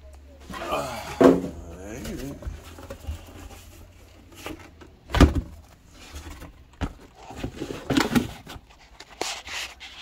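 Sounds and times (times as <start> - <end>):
cardboard and styrofoam rustling: 1.2 - 10.0.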